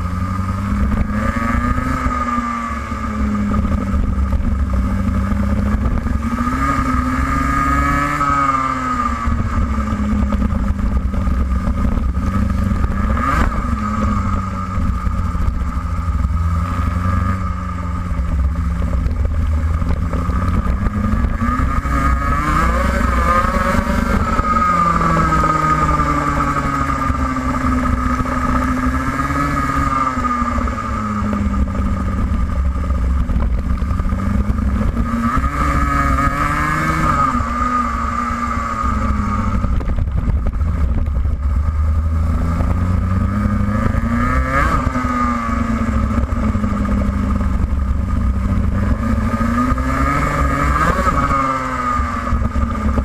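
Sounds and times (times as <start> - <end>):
kart engine accelerating: 0.0 - 53.0.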